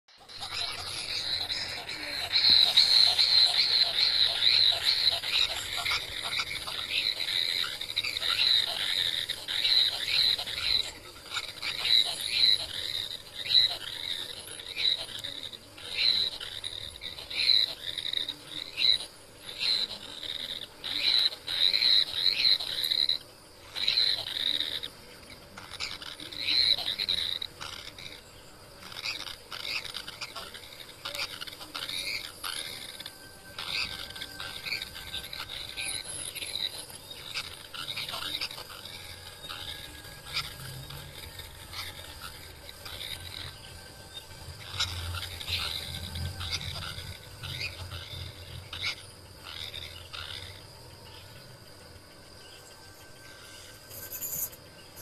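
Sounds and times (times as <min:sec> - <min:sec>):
nestling birds calling: 0:00.1 - 0:55.0.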